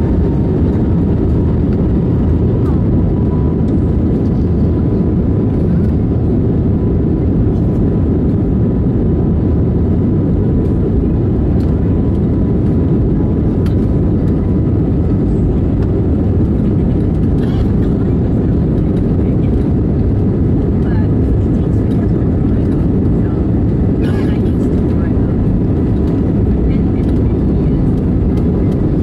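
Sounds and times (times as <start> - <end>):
aircraft cabin rumble: 0.0 - 29.0.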